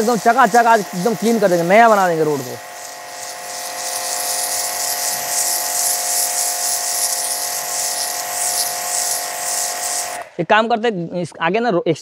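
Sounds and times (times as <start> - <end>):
motor and pump whine: 0.0 - 10.4
pressure washer jet hissing: 0.0 - 10.4.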